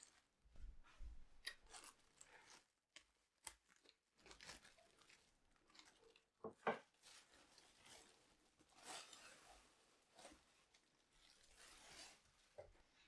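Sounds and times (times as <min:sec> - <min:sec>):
soft rustles and crinkles: 0:00.0 - 0:13.0.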